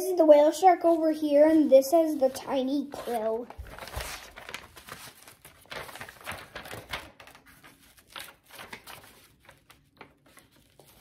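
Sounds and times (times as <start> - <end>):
paper pages rustling: 0.8 - 11.0.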